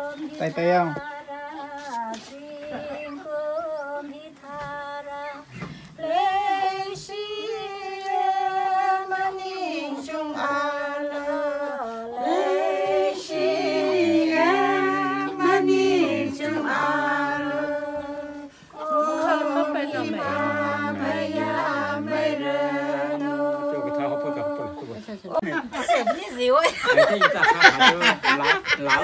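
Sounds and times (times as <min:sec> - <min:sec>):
lower voice singing: 0:00.0 - 0:24.9
women singing unaccompanied: 0:00.0 - 0:25.0.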